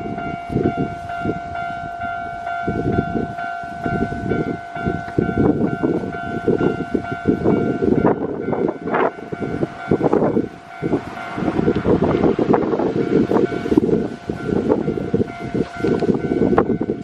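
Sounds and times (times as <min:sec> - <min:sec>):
level-crossing alarm ringing: 0:00.0 - 0:17.0.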